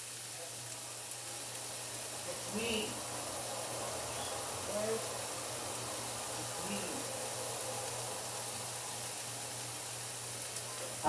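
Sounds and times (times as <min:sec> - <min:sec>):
food frying in a pan: 0:00.0 - 0:11.0.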